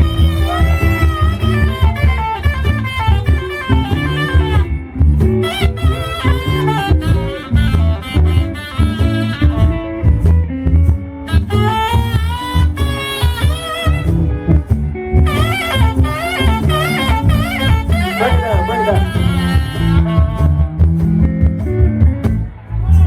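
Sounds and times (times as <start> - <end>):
blues band playing: 0.0 - 23.0
lead guitar bending notes: 0.0 - 23.0.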